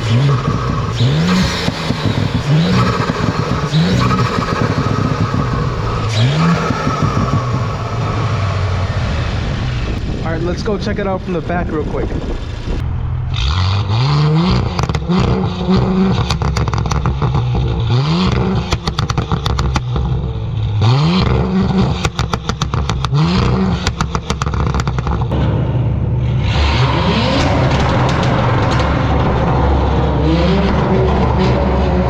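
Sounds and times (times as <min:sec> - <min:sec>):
car engine revving: 0:00.0 - 0:32.0
exhaust pops and crackles: 0:00.0 - 0:32.0.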